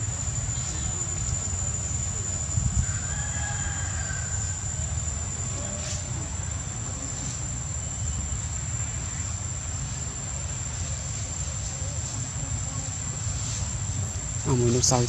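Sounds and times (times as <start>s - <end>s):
insects droning: 0.0s - 15.0s
low steady rumble: 0.0s - 15.0s.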